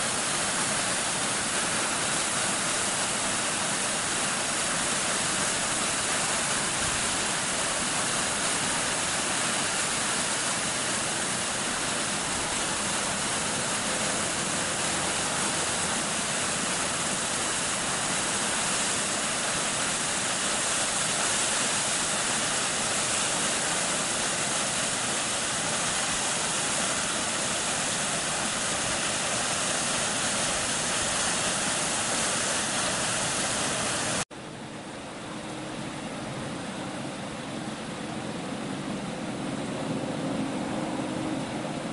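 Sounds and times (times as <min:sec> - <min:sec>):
water rushing down a waterfall: 0:00.0 - 0:34.5.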